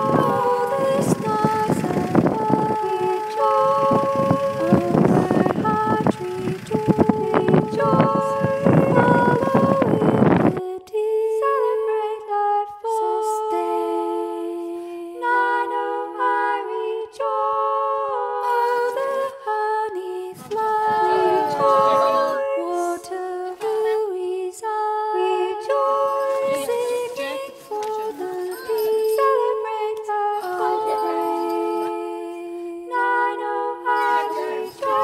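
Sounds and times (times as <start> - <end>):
person singing unaccompanied: 0.0 - 35.0.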